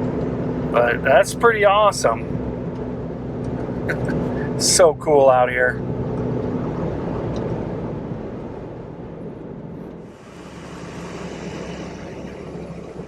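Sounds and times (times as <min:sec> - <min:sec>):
pickup truck engine: 0:00.0 - 0:13.0
road noise: 0:00.0 - 0:13.0.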